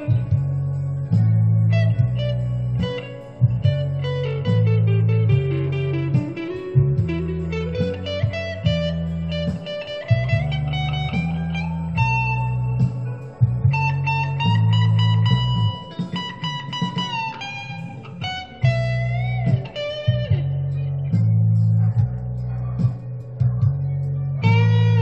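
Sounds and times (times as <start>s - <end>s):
electric guitar blues lead: 0.0s - 25.0s
low repeating bass line: 0.0s - 25.0s.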